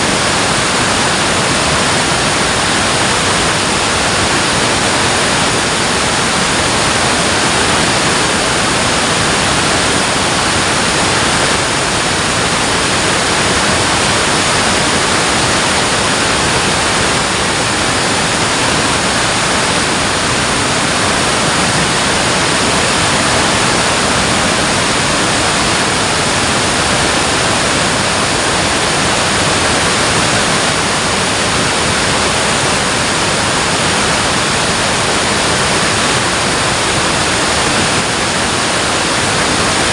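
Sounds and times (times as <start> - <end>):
dam water rushing roar: 0.0 - 39.9.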